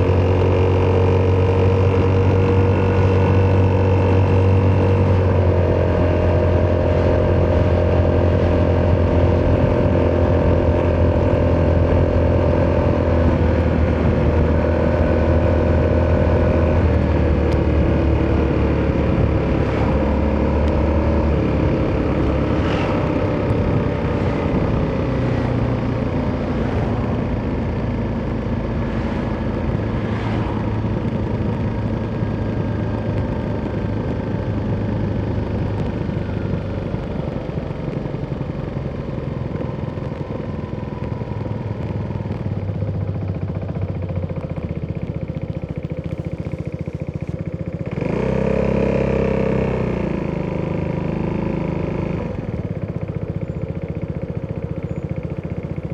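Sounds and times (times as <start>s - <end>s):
engine revving: 0.0s - 41.6s, 47.8s - 52.6s
motorcycle engine cruising: 0.0s - 55.9s.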